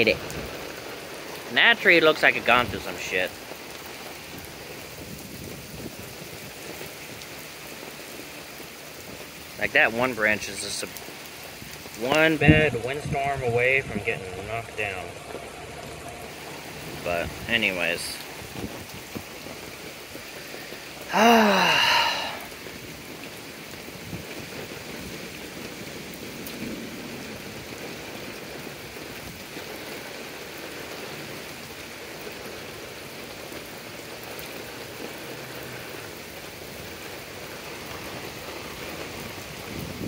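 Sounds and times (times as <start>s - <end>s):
rain on wet pavement: 0.0s - 40.0s.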